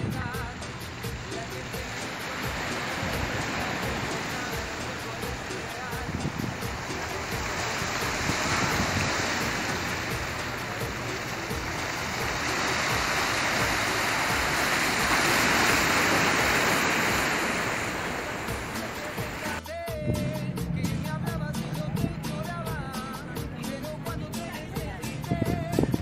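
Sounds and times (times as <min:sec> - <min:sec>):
surf washing against rocks: 0:00.0 - 0:26.0.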